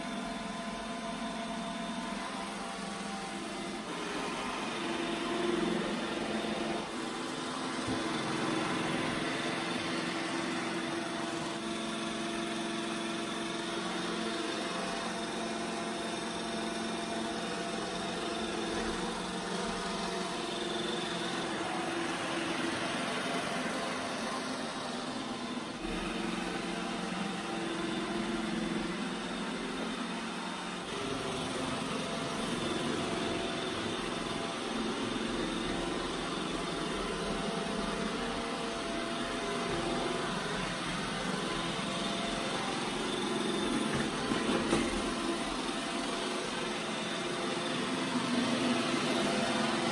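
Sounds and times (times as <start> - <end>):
robot vacuum whirring: 0.1 - 49.9.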